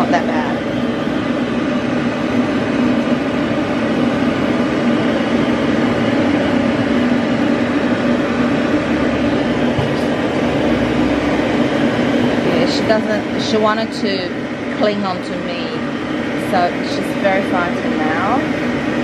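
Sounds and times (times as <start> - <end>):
pet blow dryer rushing air: 0.0 - 19.0.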